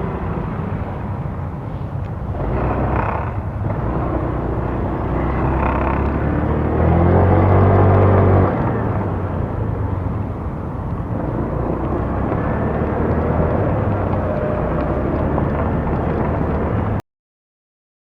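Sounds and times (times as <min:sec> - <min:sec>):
scooter engine drone: 0:00.0 - 0:17.0
wind and road noise: 0:00.0 - 0:17.0.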